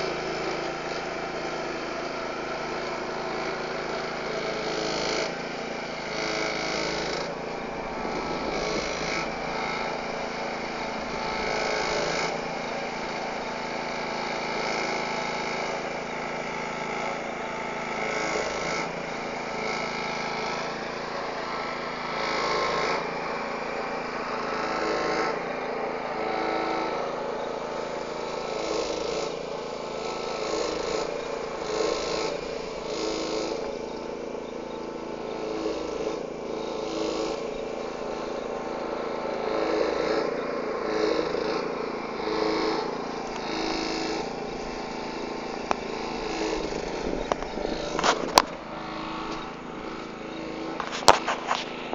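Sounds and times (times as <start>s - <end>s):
spraying rush: 0.0s - 51.9s
truck engine running: 0.0s - 51.9s.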